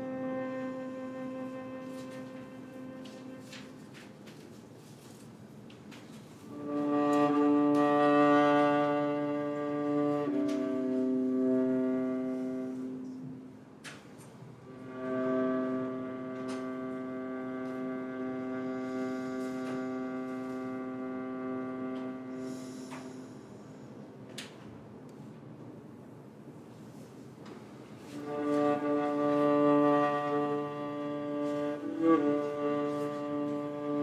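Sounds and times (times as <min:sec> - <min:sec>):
violin long bowed notes: 0:00.0 - 0:05.3, 0:05.9 - 0:24.0, 0:28.0 - 0:34.0.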